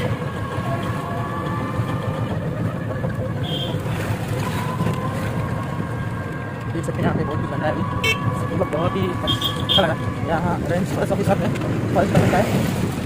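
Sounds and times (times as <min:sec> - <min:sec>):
road and wind rumble: 0:00.0 - 0:13.0.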